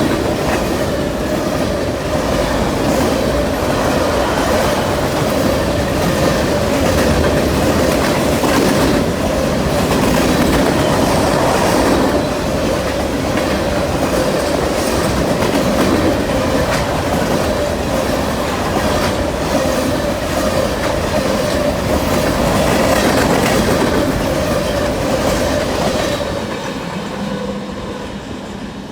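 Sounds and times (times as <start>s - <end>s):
train wheels clacking: 0.0s - 27.4s
freight train rumble: 0.0s - 28.9s.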